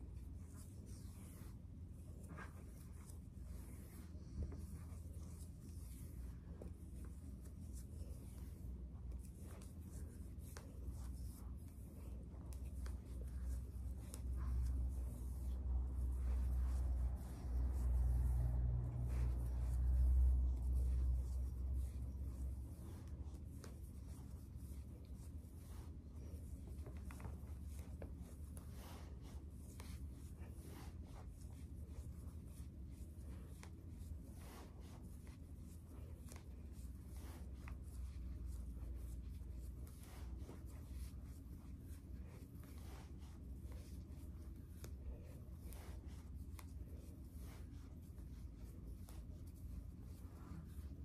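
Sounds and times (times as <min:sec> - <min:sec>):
hair rustling while braided: 0:00.0 - 0:51.0
low steady hum: 0:00.0 - 0:51.0.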